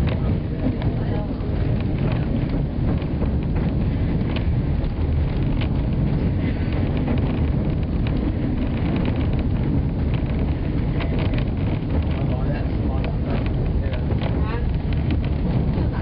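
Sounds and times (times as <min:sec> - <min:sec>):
faint track clicks: 0:00.0 - 0:16.0
train coach rumbling on track: 0:00.0 - 0:16.0.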